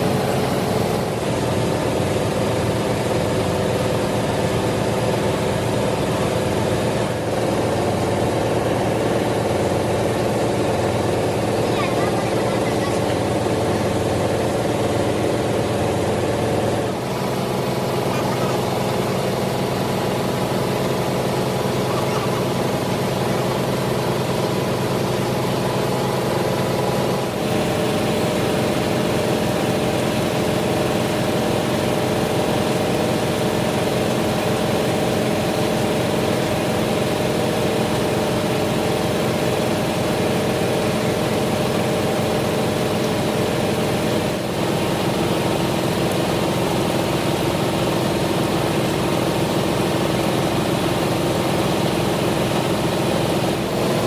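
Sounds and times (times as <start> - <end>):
metalworking machinery drone: 0.0 - 54.0.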